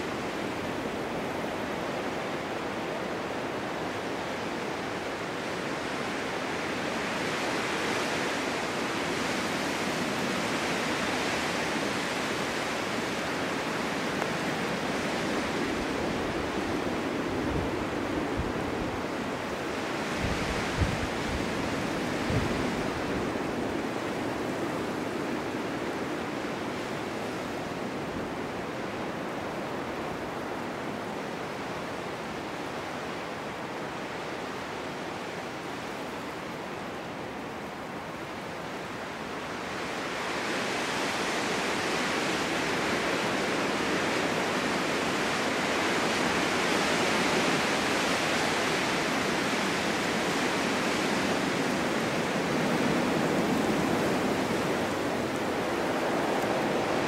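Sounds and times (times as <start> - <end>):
wind blowing in snowstorm: 0.0 - 57.0.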